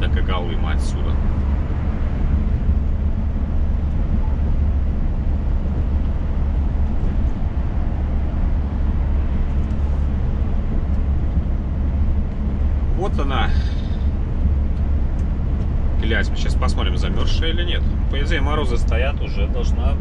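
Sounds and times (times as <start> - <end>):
road and tyre noise: 0.0 - 20.0
truck engine drone: 0.0 - 20.0.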